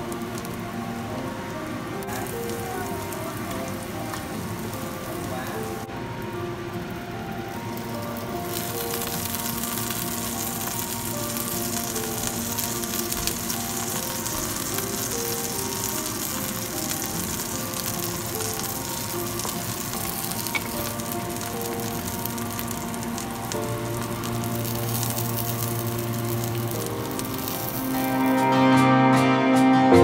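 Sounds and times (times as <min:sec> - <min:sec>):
pancakes sizzling in oil: 0:00.0 - 0:05.9, 0:06.5 - 0:28.5
soft background music: 0:00.0 - 0:30.0.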